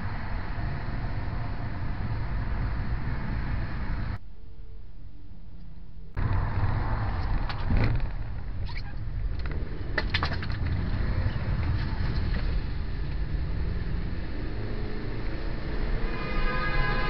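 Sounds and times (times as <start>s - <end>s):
car engine and tyres rumbling: 0.0s - 4.2s, 5.3s - 17.0s.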